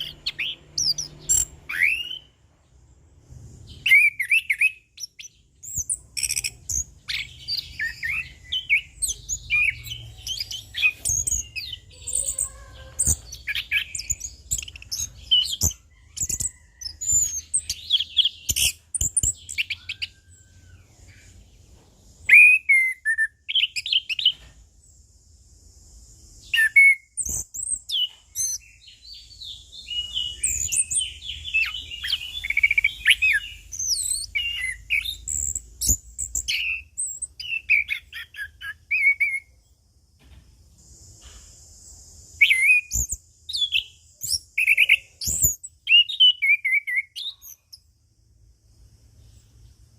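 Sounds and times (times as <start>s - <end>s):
thrush singing whistled trills: 0.0s - 2.7s, 3.6s - 39.7s, 41.8s - 48.4s.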